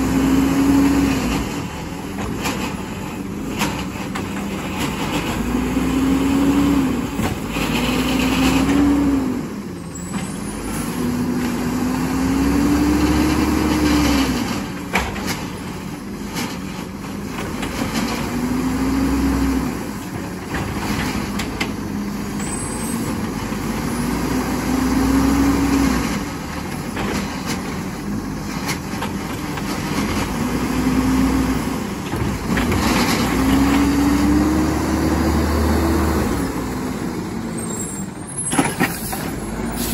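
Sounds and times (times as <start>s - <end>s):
garbage truck diesel engine revving: 0.0s - 39.9s.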